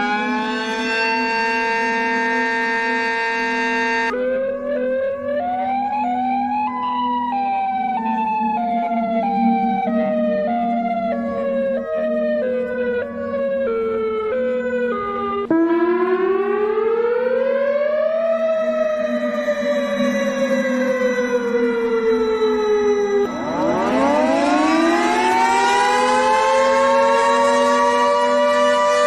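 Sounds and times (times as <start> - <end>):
air-raid siren winding: 0.0 - 5.0, 5.6 - 29.0
steady low drone: 0.0 - 28.4
siren sliding down in pitch: 0.0 - 29.0.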